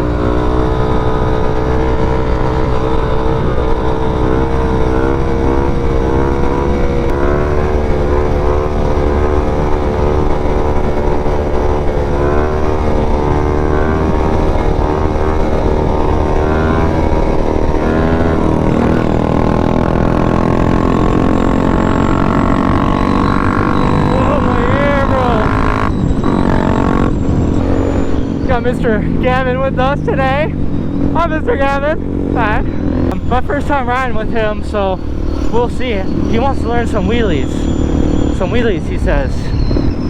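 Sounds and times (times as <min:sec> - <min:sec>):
motorcycle engine running: 0:00.0 - 0:40.0
steady low rumble: 0:00.0 - 0:40.0.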